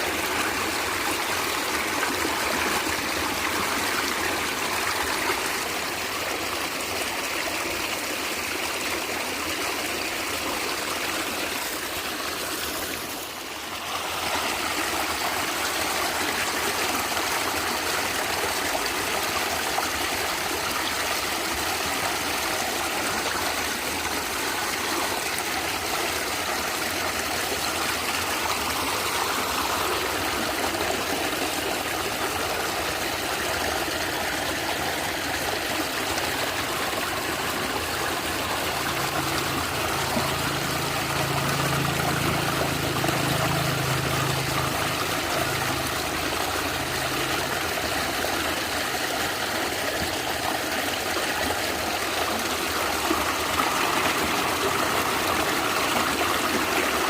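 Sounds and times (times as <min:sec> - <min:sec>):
stream water gurgling: 0:00.0 - 0:57.0.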